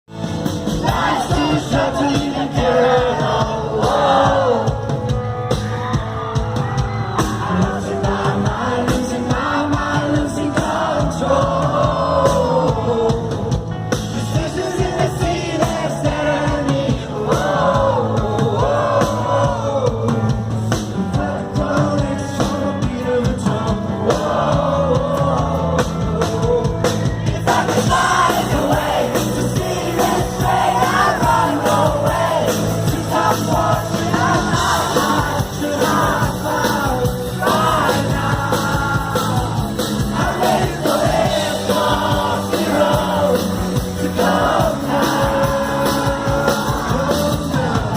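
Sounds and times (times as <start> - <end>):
live rock band: 0.1 - 47.9
man singing: 0.8 - 5.2, 7.2 - 47.9.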